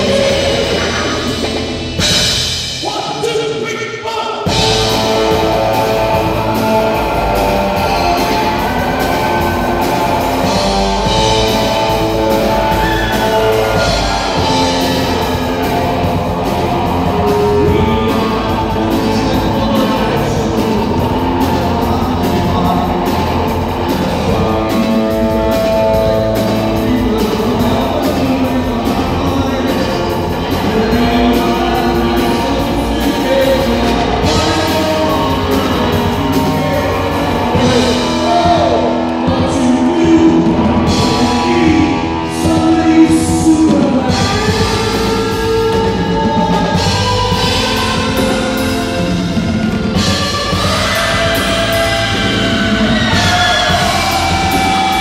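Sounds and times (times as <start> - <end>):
men singing into microphones: 0.0 - 1.6, 4.5 - 55.0
electric guitar: 0.0 - 2.8, 4.4 - 55.0
bass guitar: 0.0 - 3.3, 4.4 - 55.0
drums: 0.0 - 55.0.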